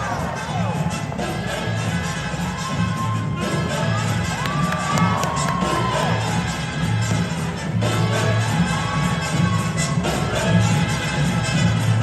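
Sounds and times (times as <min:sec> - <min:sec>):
percussion: 0:00.0 - 0:12.0.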